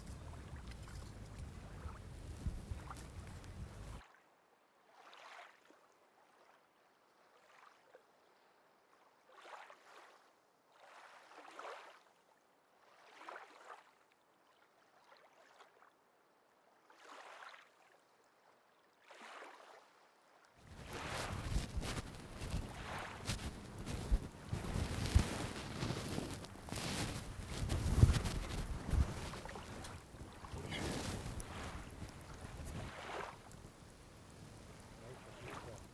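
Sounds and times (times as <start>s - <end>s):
small waves washing ashore: 0.0s - 14.0s, 16.8s - 35.9s.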